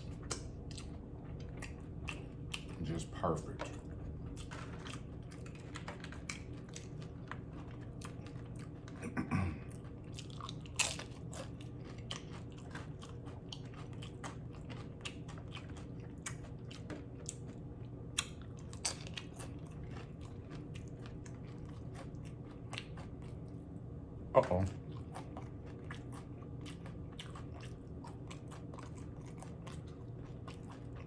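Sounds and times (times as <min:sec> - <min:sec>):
chewing and crunching chips: 0:00.0 - 0:31.0.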